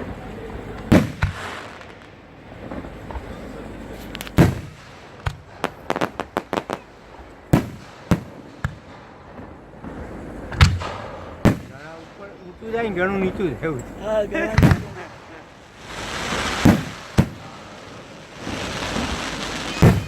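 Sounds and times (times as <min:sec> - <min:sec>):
fireworks booming: 0:00.0 - 0:20.0
fireworks crackling pops: 0:00.0 - 0:20.0.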